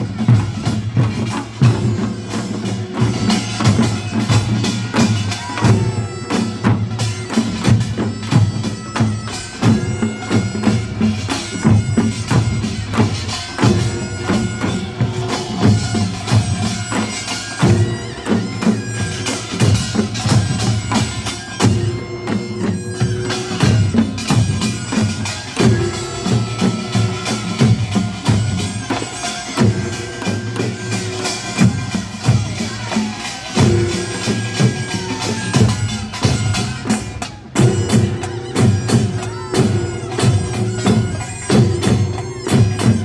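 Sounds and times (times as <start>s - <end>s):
drums and hand gongs: 0.0s - 43.0s
loud reed shawm melody: 0.0s - 43.0s.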